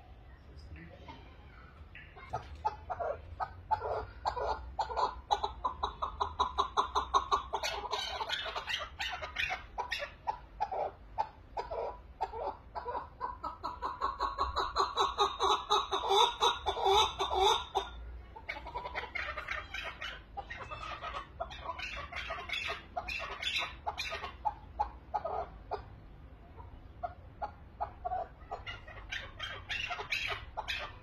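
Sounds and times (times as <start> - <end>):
partridge chuck calls: 1.5 - 31.0.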